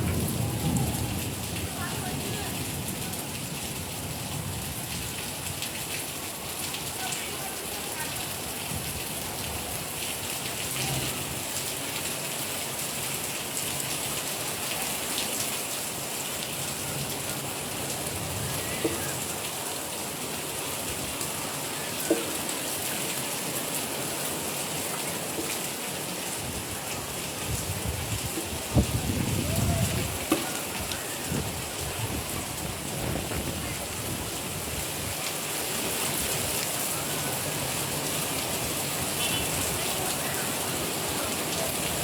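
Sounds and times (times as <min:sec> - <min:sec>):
rain pattering on surfaces: 0:00.0 - 0:42.0.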